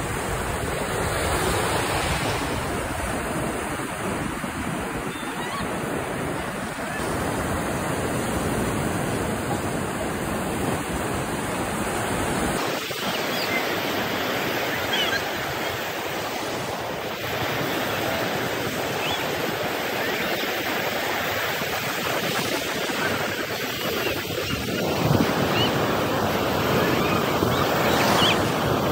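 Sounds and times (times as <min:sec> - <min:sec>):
waves breaking: 0:00.0 - 0:28.9.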